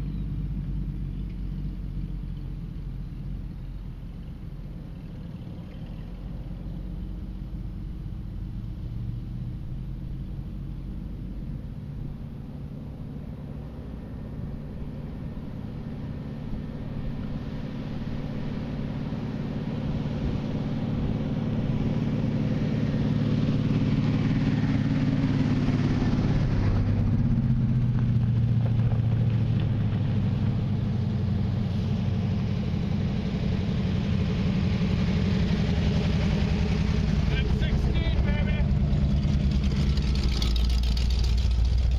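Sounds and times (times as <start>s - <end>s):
off-road vehicle engines: 0.0s - 41.9s.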